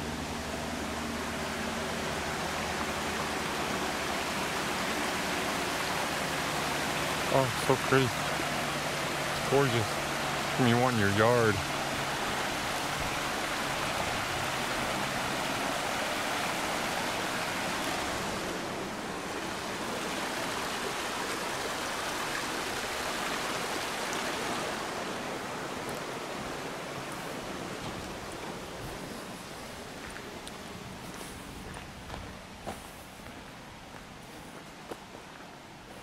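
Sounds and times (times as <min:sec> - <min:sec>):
waterfall rushing: 0:00.0 - 0:31.6.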